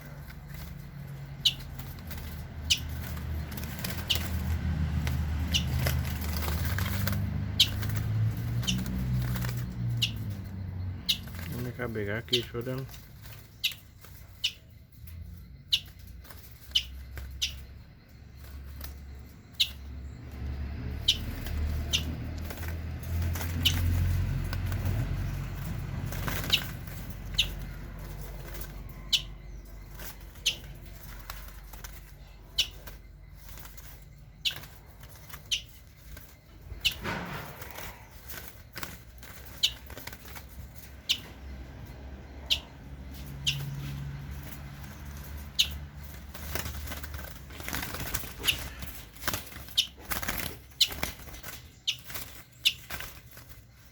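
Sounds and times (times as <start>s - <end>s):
birds flapping wings: 0.0s - 53.9s
high bird chirps: 0.0s - 53.9s.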